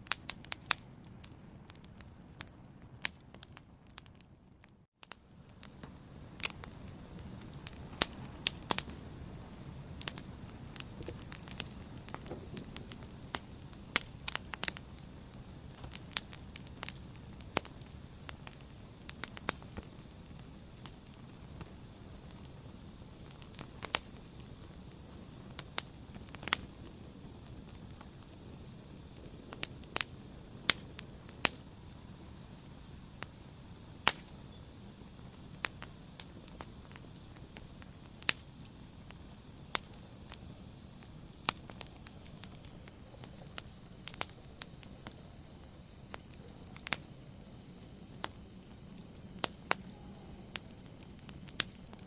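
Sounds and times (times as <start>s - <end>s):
wood fire crackling in fireplace: 0.0s - 52.0s.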